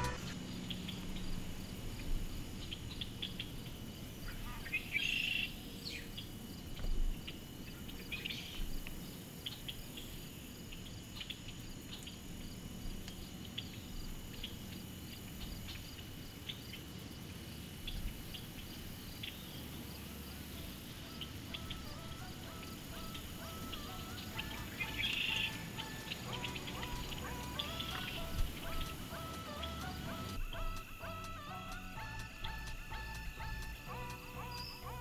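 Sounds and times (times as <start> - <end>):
insect high trill: 0.0 - 12.6, 17.7 - 35.0
crickets chirping: 0.0 - 35.0.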